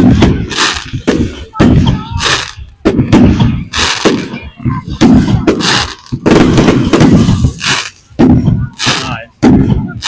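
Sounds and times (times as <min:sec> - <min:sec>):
fireworks shells bursting: 0:00.0 - 0:10.0.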